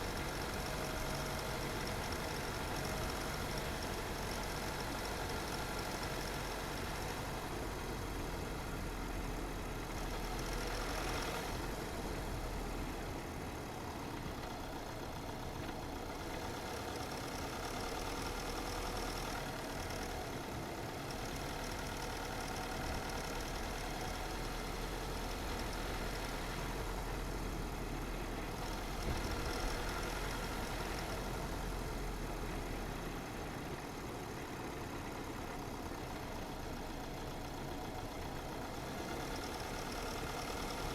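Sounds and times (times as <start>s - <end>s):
car driving on a road: 0.0s - 40.9s.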